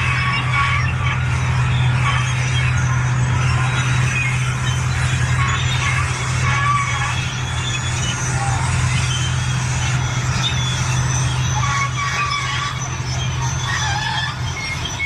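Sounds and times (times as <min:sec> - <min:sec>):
bulldozer diesel engine droning: 0:00.0 - 0:15.0
high wavering tones: 0:00.0 - 0:15.0.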